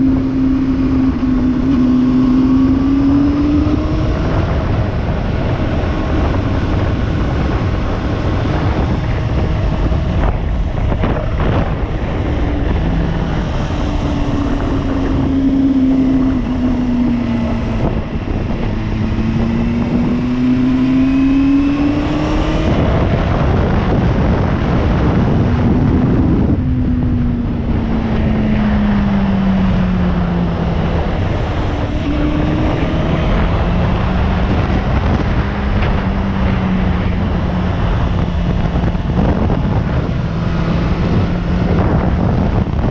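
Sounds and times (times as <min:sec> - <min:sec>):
motorcycle engine: 0:00.0 - 0:42.9
wind rush on microphone: 0:00.0 - 0:42.9.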